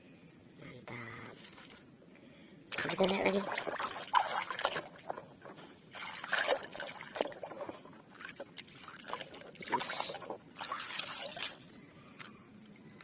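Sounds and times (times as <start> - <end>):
water trickling and splashing: 1.2 - 1.9, 2.7 - 13.0.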